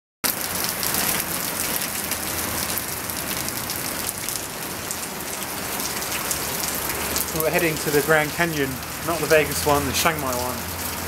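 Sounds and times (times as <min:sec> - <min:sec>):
drops splashing in puddles: 0:00.2 - 0:11.0
heavy rain hiss: 0:00.5 - 0:11.0.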